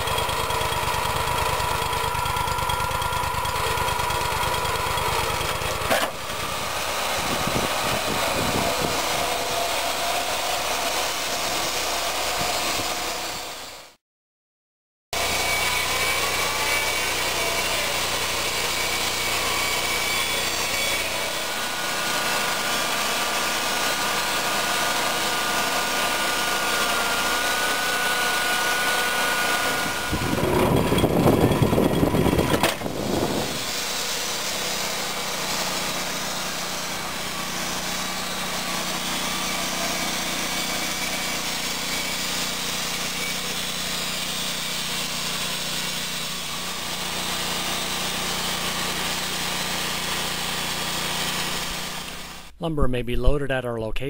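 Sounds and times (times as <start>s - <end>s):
band sawmill cutting log: 0.0s - 14.0s, 15.2s - 52.6s.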